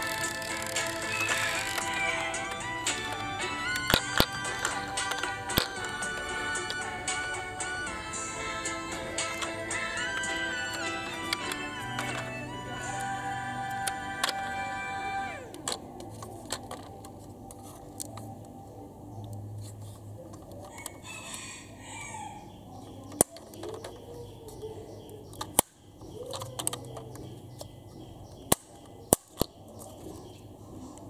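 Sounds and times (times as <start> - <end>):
toy car doors clicking open and shut: 0.0 - 18.5, 23.0 - 30.1.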